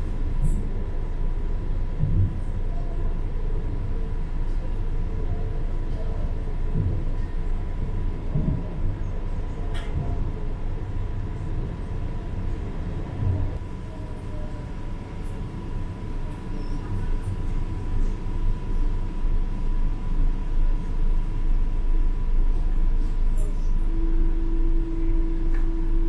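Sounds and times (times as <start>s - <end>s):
wheels rumbling on track: 0.0s - 26.0s.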